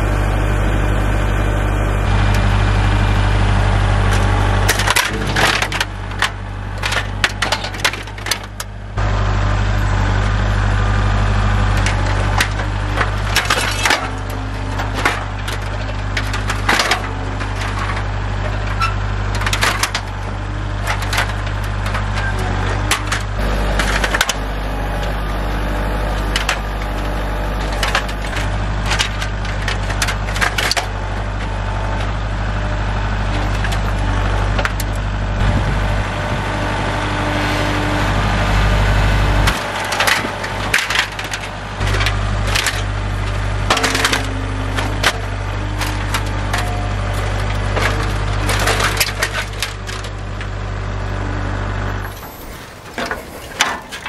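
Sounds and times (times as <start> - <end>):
tractor diesel engine running: 0.0 - 54.0
metal crunching and clanking: 2.0 - 54.0.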